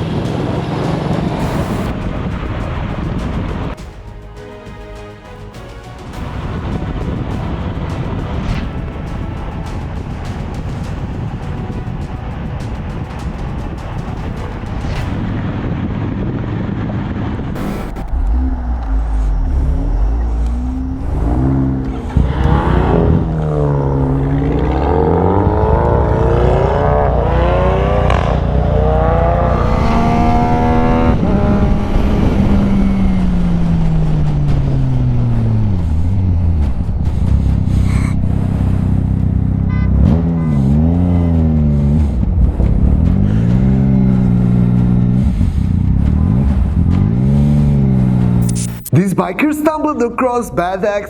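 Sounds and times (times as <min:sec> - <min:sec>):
road rumble: 0:00.0 - 0:49.0
low wind: 0:00.0 - 0:49.8
motorcycle engine accelerating: 0:06.2 - 0:48.8.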